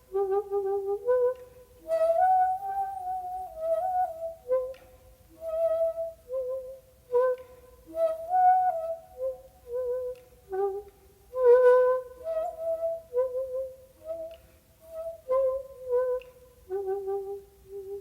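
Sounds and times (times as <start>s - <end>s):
end-blown bamboo flute playing: 0.0s - 18.0s.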